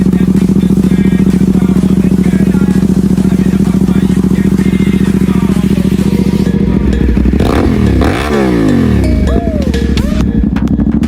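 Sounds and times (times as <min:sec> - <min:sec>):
motorcycle engine idling: 0:00.0 - 0:11.0
throttle blip revving: 0:00.0 - 0:11.0.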